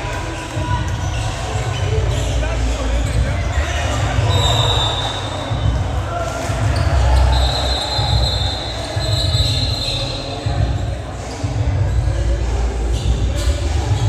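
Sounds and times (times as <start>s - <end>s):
basketball bouncing on court: 0.0s - 12.2s.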